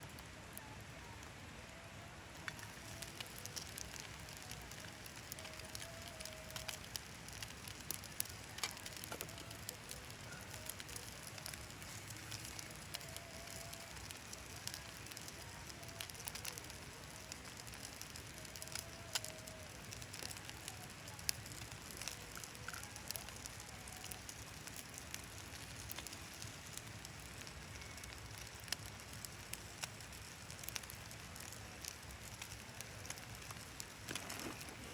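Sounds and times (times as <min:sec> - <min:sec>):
fire crackling and popping: 0:00.0 - 0:34.9
wood fire hissing: 0:00.0 - 0:34.9.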